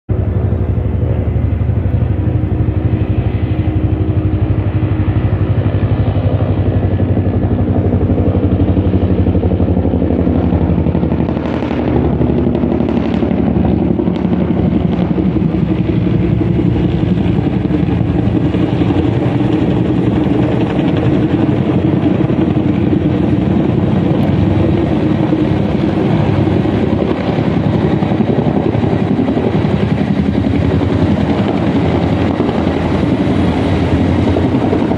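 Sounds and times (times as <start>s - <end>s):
helicopter rotor beating: 0.1s - 34.9s.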